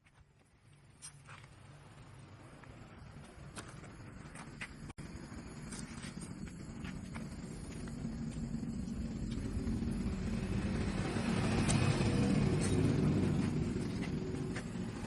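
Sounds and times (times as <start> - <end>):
vehicle engine rumbling: 0.8 - 15.0.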